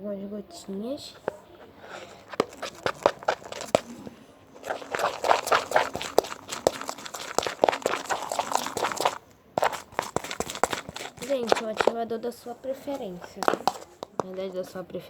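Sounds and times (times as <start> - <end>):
slime stirred in container: 1.0 - 14.7.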